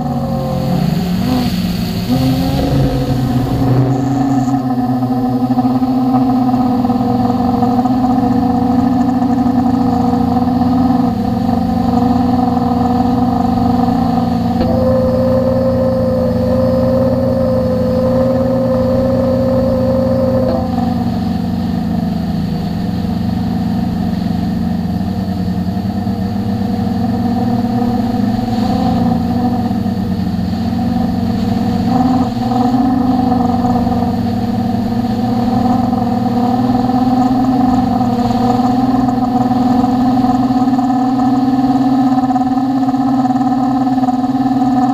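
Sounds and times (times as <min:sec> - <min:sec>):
drone motors humming: 0:00.0 - 0:44.9.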